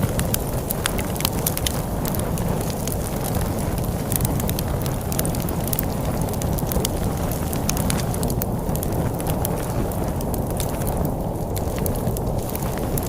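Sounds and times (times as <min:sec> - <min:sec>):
storm wind rumble: 0:00.0 - 0:13.0
wood fire crackling and popping: 0:00.0 - 0:13.0.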